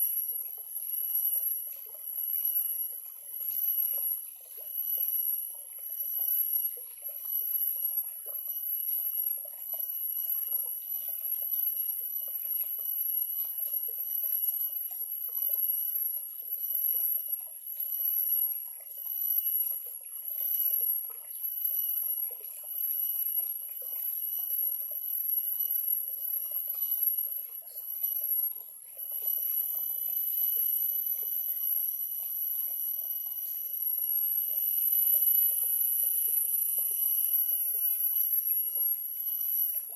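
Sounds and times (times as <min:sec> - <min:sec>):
steady high-pitched whine: 0:00.0 - 0:39.9
stream trickling and babbling: 0:00.0 - 0:39.9.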